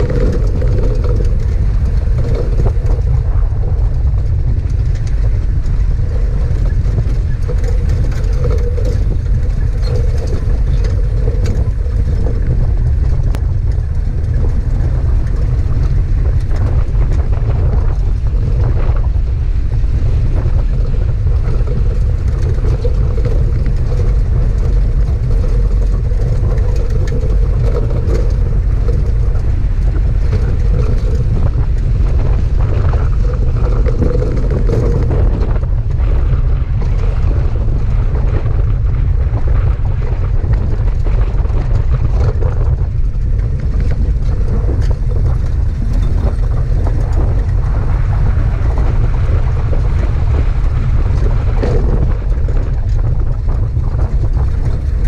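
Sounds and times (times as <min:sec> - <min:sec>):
engine drone: 0:00.0 - 0:55.0
vehicle rumbling on rocky ground: 0:00.0 - 0:55.0.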